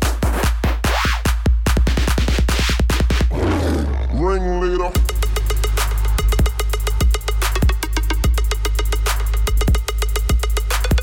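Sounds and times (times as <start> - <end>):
deep bass and kick drum: 0.0 - 3.4, 4.9 - 11.0.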